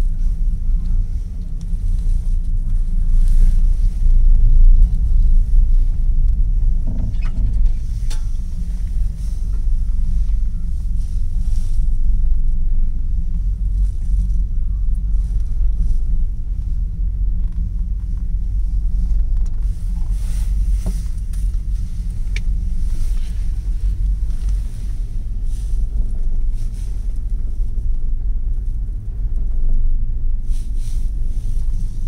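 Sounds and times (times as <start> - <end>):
cable car cabin rumble: 0.0 - 32.0.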